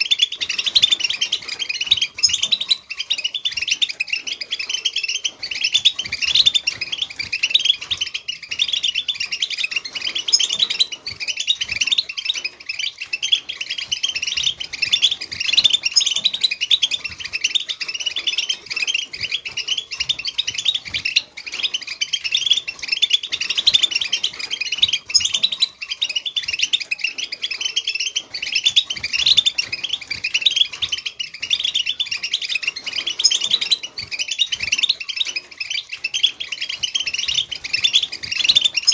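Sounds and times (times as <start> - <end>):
finches twittering and singing: 0.0 - 38.9.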